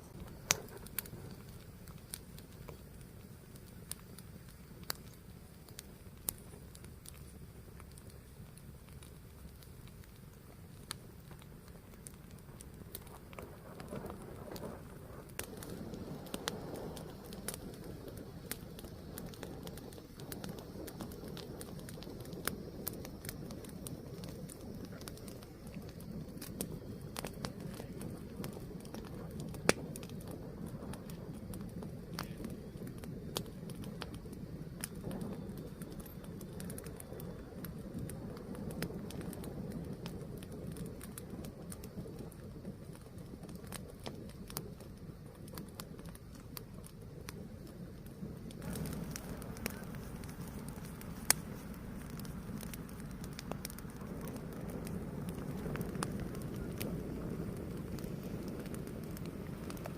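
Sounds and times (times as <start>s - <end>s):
fire crackles and pops: 0.0s - 59.9s
low rush of flame: 0.0s - 59.9s.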